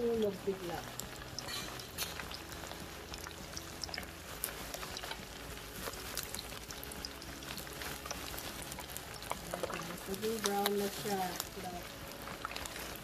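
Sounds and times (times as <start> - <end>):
meat deep-frying in oil: 0.0 - 13.0.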